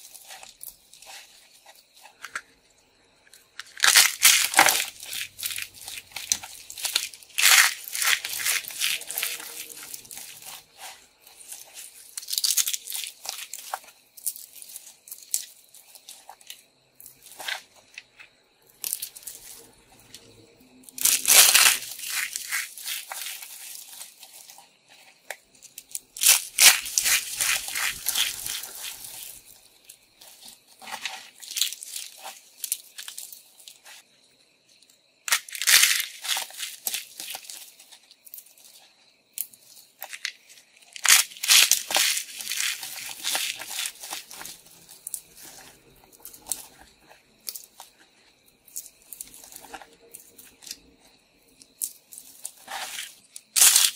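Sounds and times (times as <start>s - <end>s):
soap chips crunching by hand: 0.0s - 18.1s, 18.8s - 34.0s, 35.3s - 48.0s, 48.6s - 53.9s
soap chips rustling: 0.0s - 34.1s, 34.8s - 53.9s.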